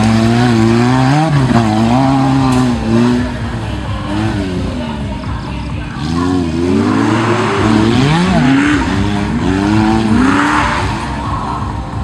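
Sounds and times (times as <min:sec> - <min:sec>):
off-road vehicle engines revving: 0:00.0 - 0:12.0.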